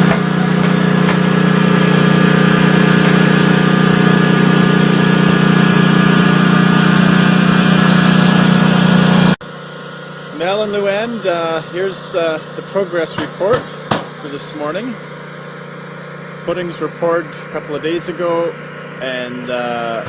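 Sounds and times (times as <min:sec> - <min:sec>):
construction machine engine running: 0:00.0 - 0:20.0.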